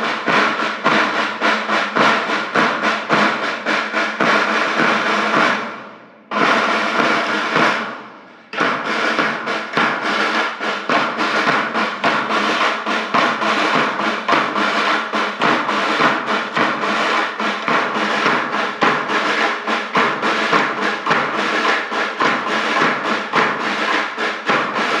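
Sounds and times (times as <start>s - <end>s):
drums and percussion playing: 0.0s - 25.0s.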